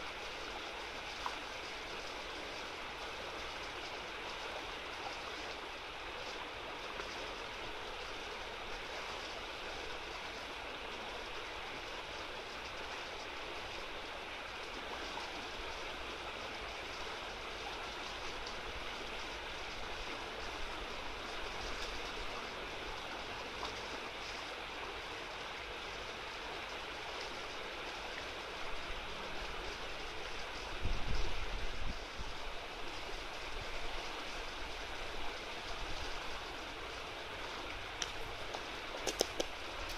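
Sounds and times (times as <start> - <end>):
river rushing over shallows: 0.0 - 39.9.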